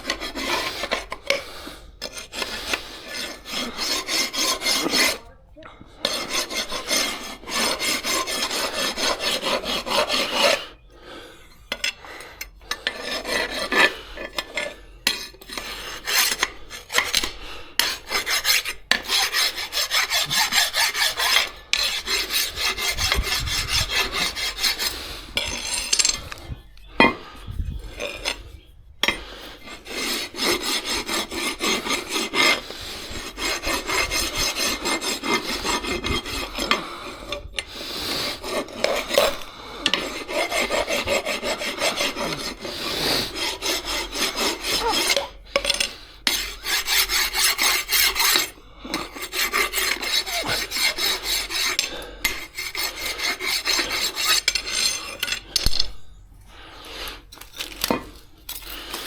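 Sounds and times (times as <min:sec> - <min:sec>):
hand tool scraping hard surface: 0:00.0 - 0:05.3, 0:06.0 - 0:10.8, 0:11.7 - 0:56.0, 0:56.9 - 0:59.0.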